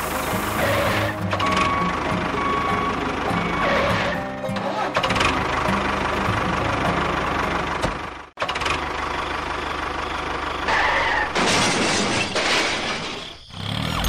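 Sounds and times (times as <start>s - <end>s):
tractor engine chugging: 0.0s - 11.4s.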